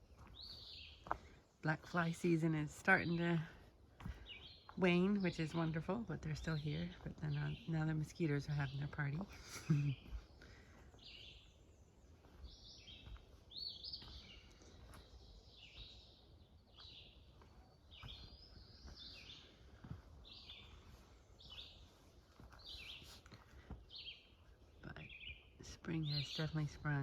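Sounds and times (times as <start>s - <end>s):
songbirds singing: 0.0s - 27.0s.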